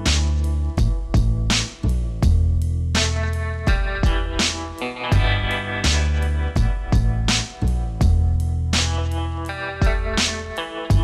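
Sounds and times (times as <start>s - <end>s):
steady drum beat: 0.0s - 9.2s, 9.8s - 11.0s.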